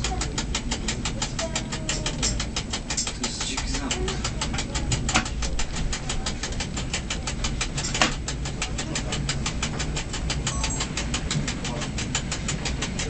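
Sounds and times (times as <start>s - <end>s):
rapid even ticking: 0.0s - 13.0s
train low running hum: 0.0s - 13.0s.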